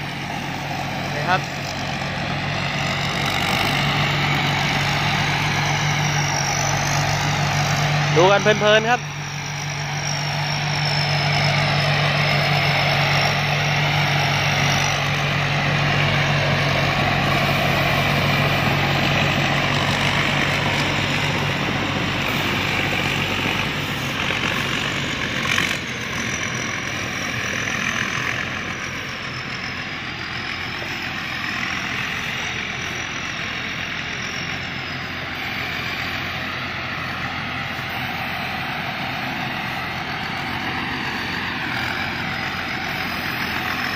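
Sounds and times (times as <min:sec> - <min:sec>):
combine harvester running: 0:00.0 - 0:43.9
high thin whine: 0:00.0 - 0:43.9.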